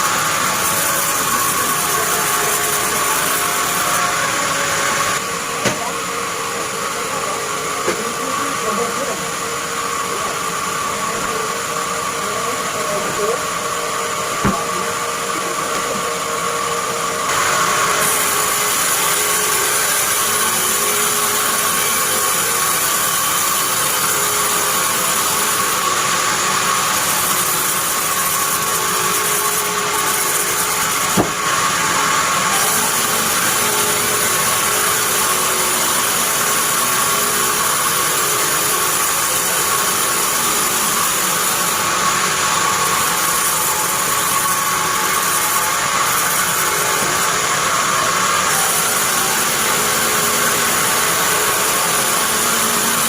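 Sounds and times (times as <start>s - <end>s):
band saw blade cutting log: 0.0s - 16.1s, 17.2s - 53.0s.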